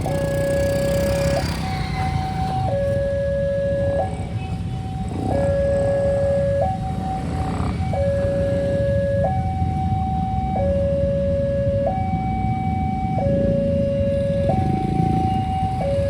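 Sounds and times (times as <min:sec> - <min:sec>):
two-tone level crossing alarm: 0:00.0 - 0:16.0.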